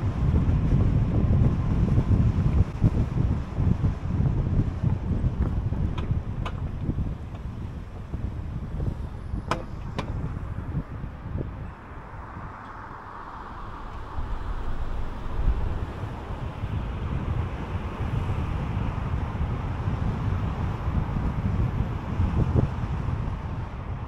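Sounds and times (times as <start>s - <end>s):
car tyres and engine rumble: 0.0s - 24.0s
wind noise: 0.0s - 24.0s.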